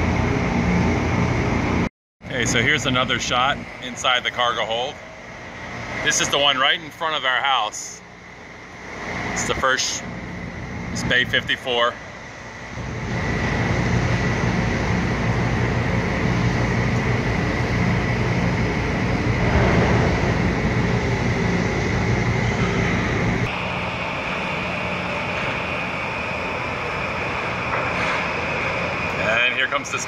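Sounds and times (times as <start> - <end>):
ship machinery drone: 0.0 - 30.0.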